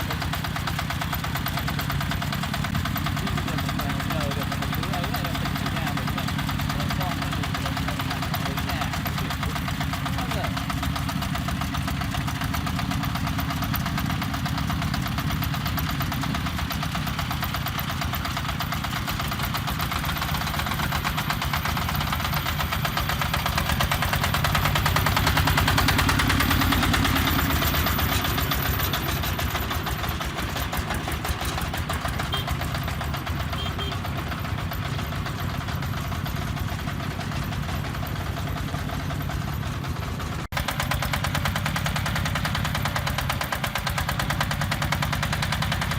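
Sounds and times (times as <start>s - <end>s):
diesel engine knocking: 0.0s - 45.9s.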